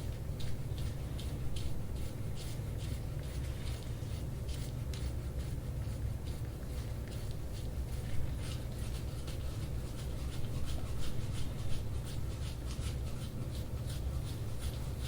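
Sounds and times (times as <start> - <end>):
rubbing strokes on skin: 0.0 - 15.0
steady low hum: 0.0 - 15.0.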